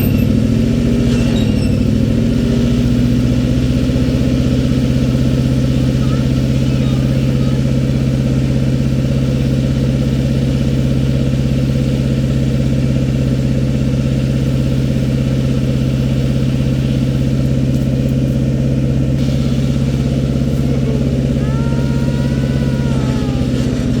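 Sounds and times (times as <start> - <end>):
backhoe engine droning: 0.0 - 24.0.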